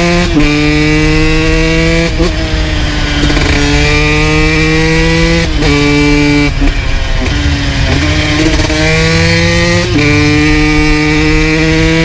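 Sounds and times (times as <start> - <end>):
motorcycle engine revving through gears: 0.0 - 12.0.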